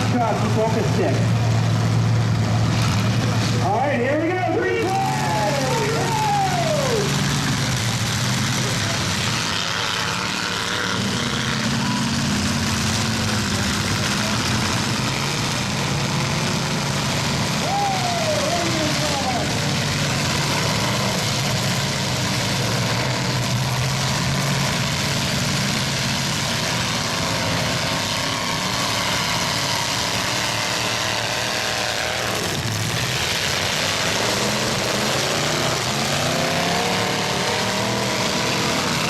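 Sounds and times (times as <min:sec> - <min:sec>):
truck engines revving: 0:00.0 - 0:39.0.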